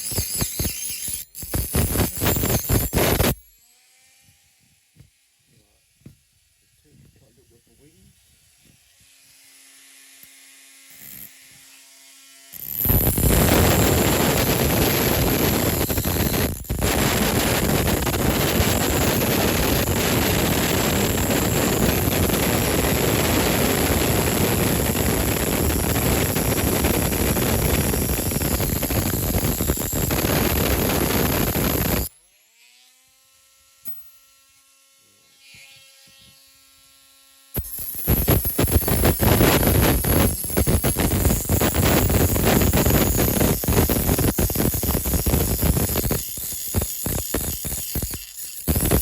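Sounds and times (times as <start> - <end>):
rotary tool grinding metal: 0.0 - 4.6, 8.9 - 49.0.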